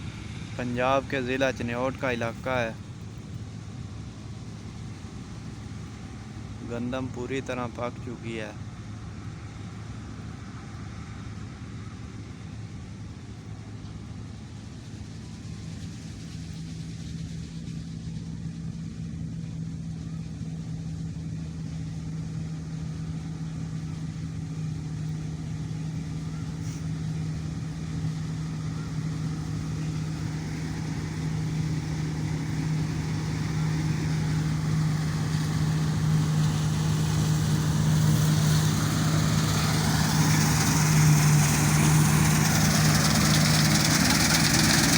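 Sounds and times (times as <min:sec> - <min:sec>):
combine harvester engine humming: 0:00.0 - 0:44.9.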